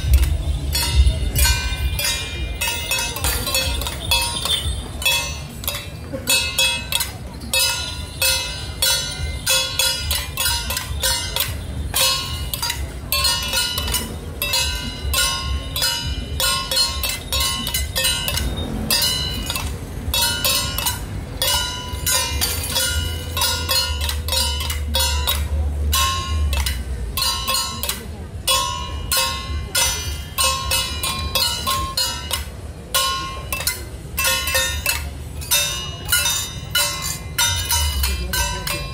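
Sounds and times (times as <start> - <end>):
cymbals struck: 0.0 - 38.9.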